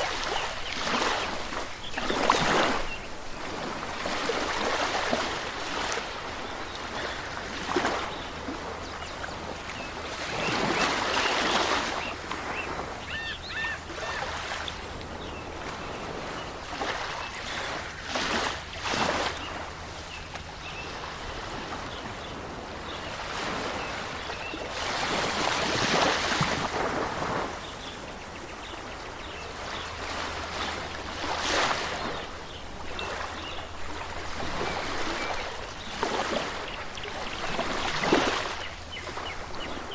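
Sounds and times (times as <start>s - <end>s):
waves washing on shore: 0.0s - 39.9s.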